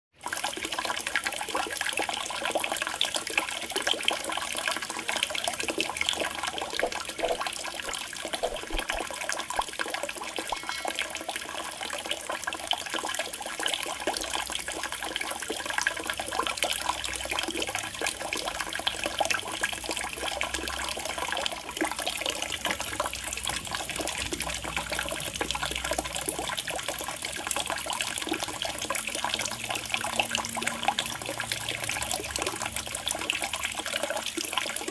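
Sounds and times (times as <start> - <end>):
water trickling into pond: 0.1 - 34.9.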